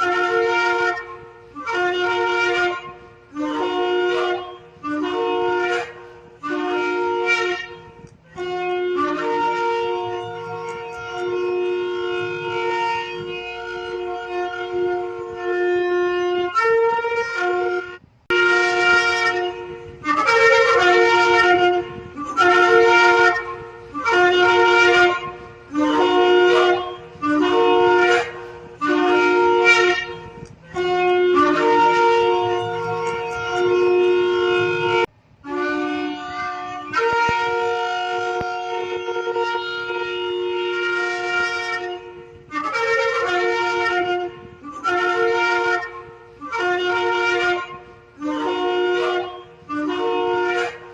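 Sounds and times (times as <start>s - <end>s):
ram's horn blasts: 0.0s - 50.9s.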